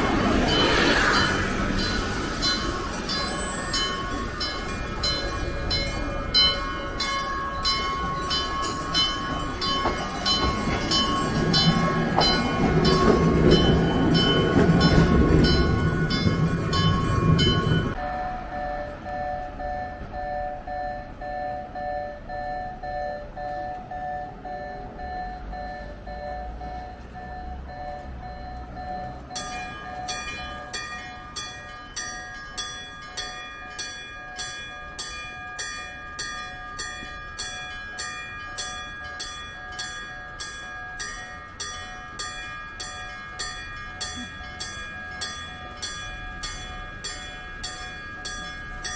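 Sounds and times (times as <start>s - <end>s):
level crossing warning bell ringing: 0.0s - 48.9s
passing tram rumble: 0.0s - 48.9s.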